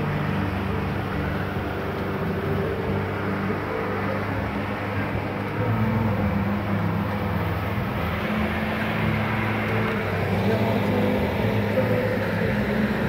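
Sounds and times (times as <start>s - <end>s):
outboard motor humming: 0.0s - 13.0s
steady rushing noise: 0.0s - 13.0s.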